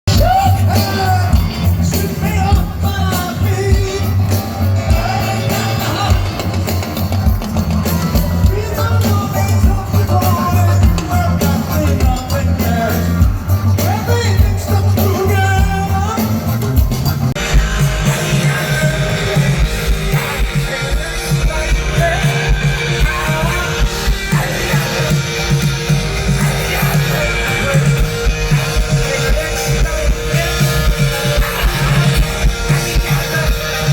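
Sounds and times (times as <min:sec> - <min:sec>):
rock band playing: 0:00.0 - 0:33.9
lead singer singing: 0:00.1 - 0:33.9.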